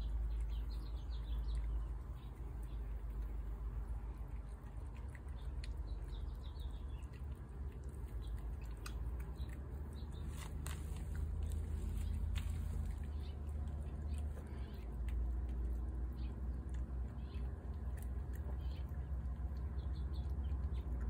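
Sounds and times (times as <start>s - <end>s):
cats chewing wet food: 0.0s - 21.0s
low background rumble: 0.0s - 21.0s.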